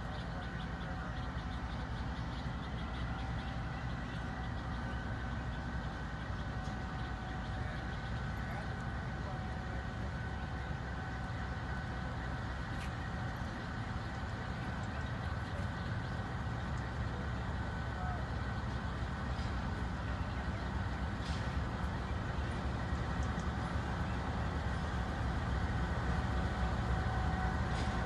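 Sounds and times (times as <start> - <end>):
locomotive engine humming: 0.0 - 28.0
thin steady whine: 0.0 - 28.0.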